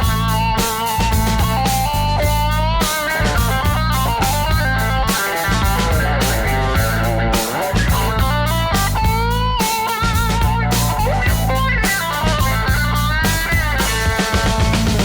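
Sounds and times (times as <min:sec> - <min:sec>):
bass and drum beat: 0:00.0 - 0:15.0.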